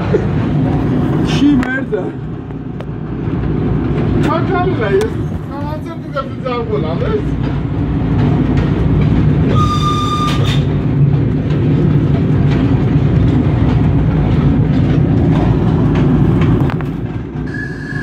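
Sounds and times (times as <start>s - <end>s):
train rumbling: 0.0s - 18.0s
wheels clicking over rail joints: 0.0s - 18.0s.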